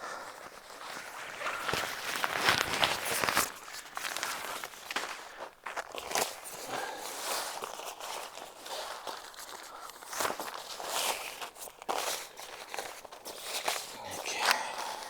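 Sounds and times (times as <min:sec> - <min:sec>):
sleeping mat fabric rustling: 0:00.5 - 0:15.0.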